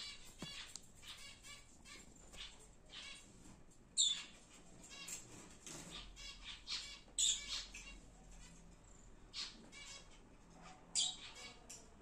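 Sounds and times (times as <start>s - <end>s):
lovebirds chirping: 0.0s - 8.7s, 10.9s - 12.0s.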